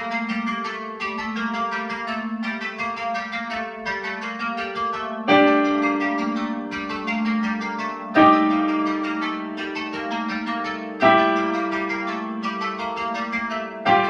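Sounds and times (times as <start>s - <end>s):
harp plucked figure: 0.0s - 14.0s.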